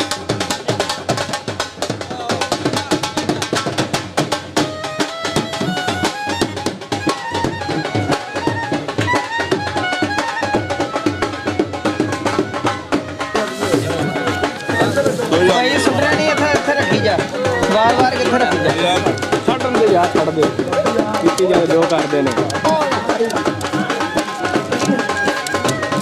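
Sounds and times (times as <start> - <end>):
live drums fast rhythm: 0.0 - 26.0.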